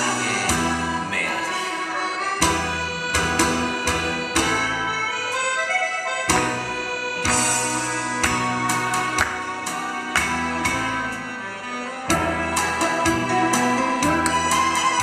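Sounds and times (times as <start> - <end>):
instrumental melody with steady beat: 0.0 - 15.0.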